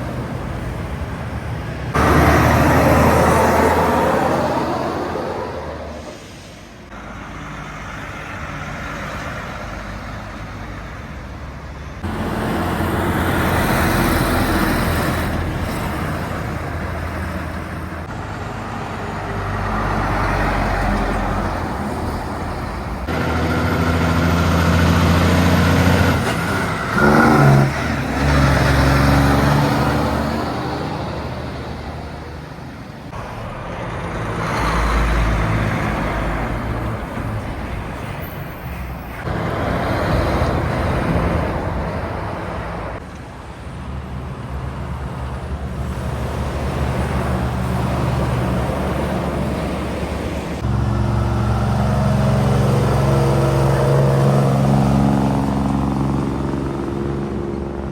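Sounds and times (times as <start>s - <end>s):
heavy truck diesel engines: 0.0s - 57.9s
road traffic passing: 0.0s - 57.9s.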